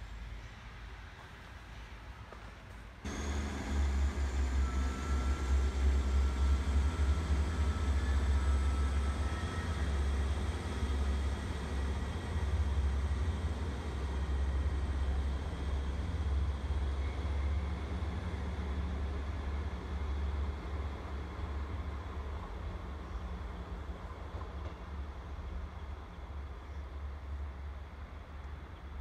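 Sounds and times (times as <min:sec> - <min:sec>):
train diesel engines rumbling: 0:00.0 - 0:29.0.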